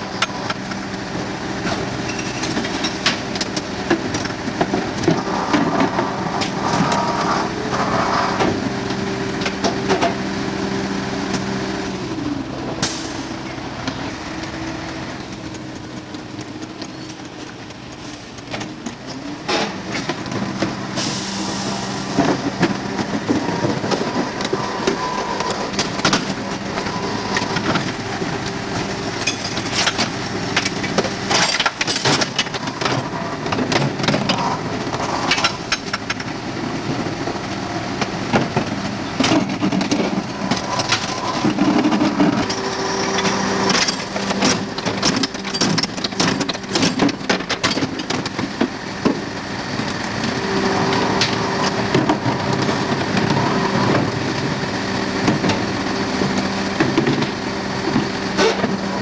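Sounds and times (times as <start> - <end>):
garbage truck machine hum: 0.0 - 59.0.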